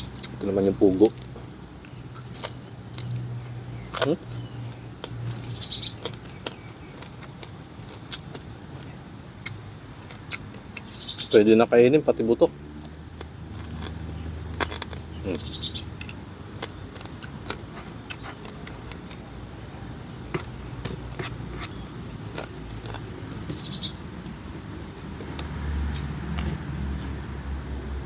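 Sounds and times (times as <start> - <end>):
man chewing crunchy bones: 0.0 - 11.2, 12.6 - 27.4
insects chirring: 0.0 - 28.0.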